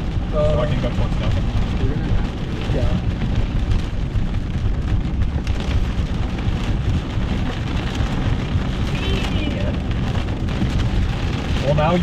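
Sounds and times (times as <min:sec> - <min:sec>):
car driving on wet road: 0:00.0 - 0:12.0
rain patter: 0:00.0 - 0:12.0.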